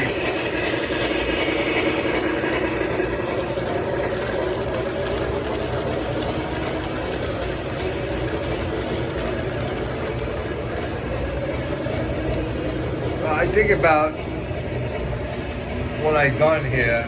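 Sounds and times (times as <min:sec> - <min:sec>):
model train motor whir: 0:00.0 - 0:15.4
wheels on rails: 0:00.0 - 0:17.0.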